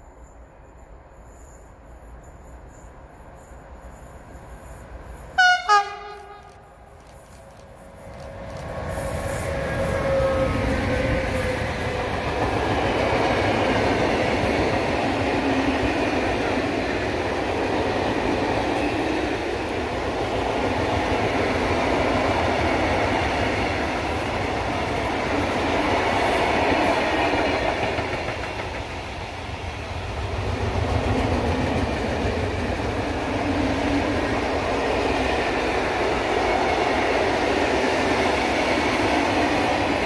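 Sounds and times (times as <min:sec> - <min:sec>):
freight train wheels rumbling on rails: 0:00.0 - 0:40.0.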